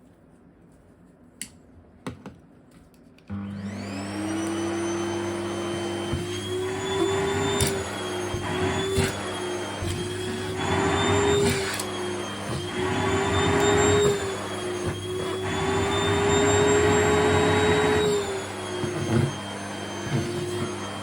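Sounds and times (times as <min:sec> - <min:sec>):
vacuum cleaner motor whine: 0:03.3 - 0:21.0.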